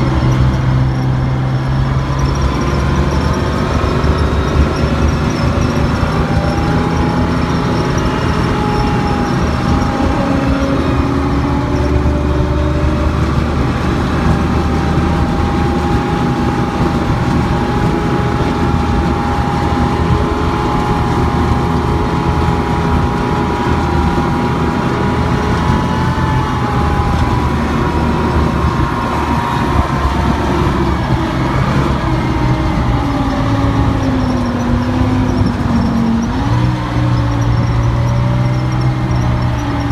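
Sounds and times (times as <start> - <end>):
military vehicle engine drone: 0.0 - 39.9.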